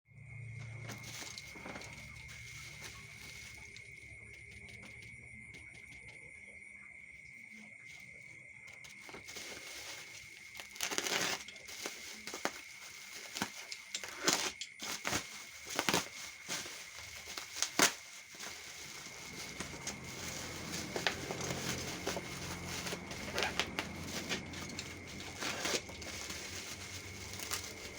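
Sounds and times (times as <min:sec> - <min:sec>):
plastic and cardboard rustling: 0:00.7 - 0:05.0, 0:08.7 - 0:27.9.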